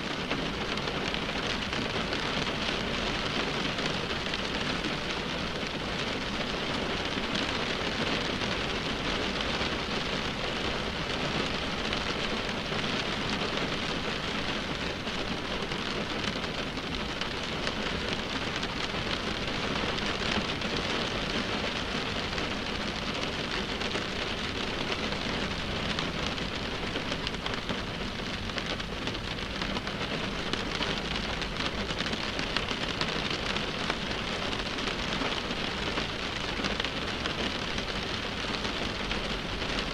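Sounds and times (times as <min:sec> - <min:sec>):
rain tapping on windshield: 0:00.0 - 0:39.9.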